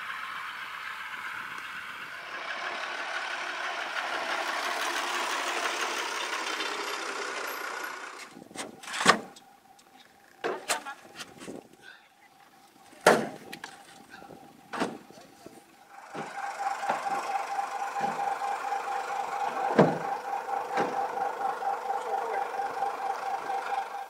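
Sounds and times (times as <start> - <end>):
pulsing engine-like hum: 0.0 - 24.0.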